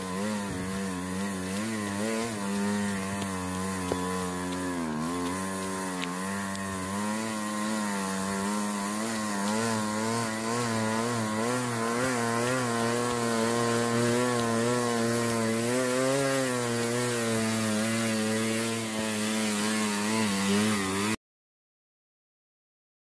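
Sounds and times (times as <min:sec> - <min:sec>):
small motorcycle engine under load: 0:00.0 - 0:21.2.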